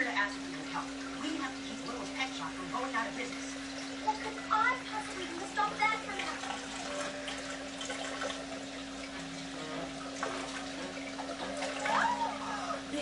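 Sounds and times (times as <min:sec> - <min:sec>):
circulating water rushing: 0:00.0 - 0:13.0.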